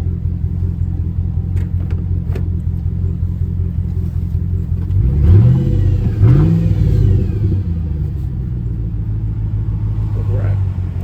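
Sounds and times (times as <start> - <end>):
truck engine idling and revving: 0.0 - 11.0.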